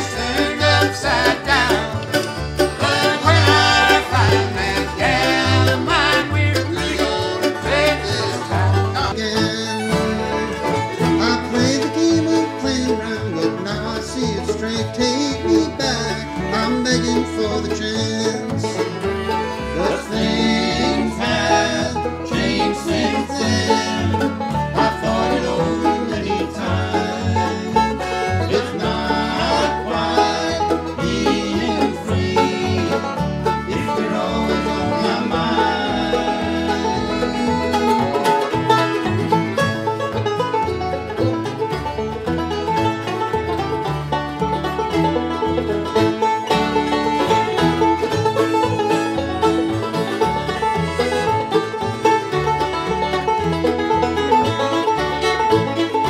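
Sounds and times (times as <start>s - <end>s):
banjo: 0.0s - 56.0s
bluegrass band playing: 0.0s - 56.0s
upright bass pulse: 0.0s - 56.0s.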